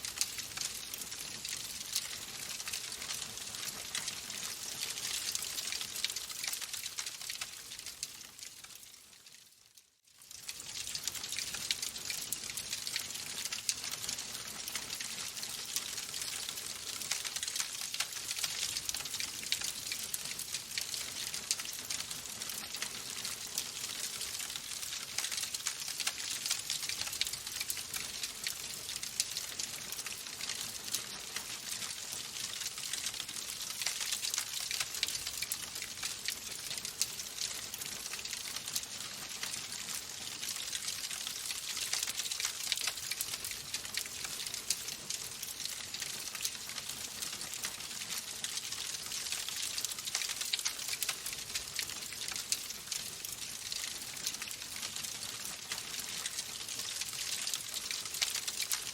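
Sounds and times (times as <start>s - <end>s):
wood fire crackling: 0.0s - 9.4s, 10.2s - 58.9s.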